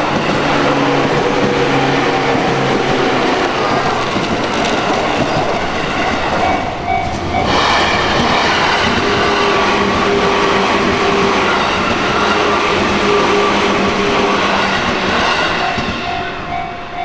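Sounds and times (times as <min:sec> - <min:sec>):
train wheels rattling on rails: 0:00.0 - 0:17.0.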